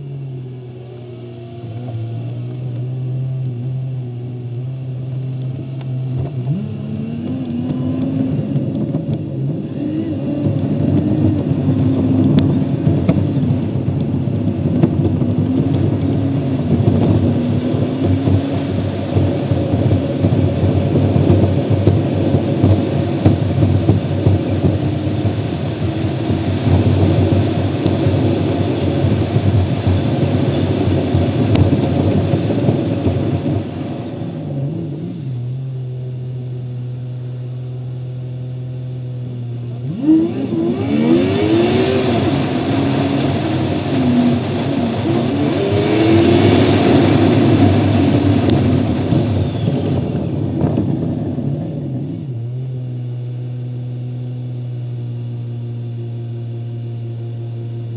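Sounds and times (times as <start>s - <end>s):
car engine: 0.0s - 57.9s
road and wind noise: 0.0s - 57.9s.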